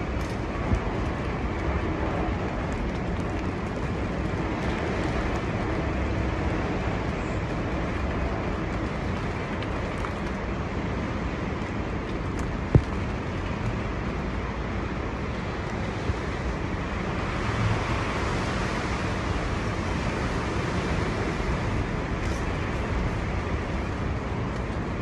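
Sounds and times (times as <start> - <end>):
storm-force wind blowing: 0.0 - 25.0.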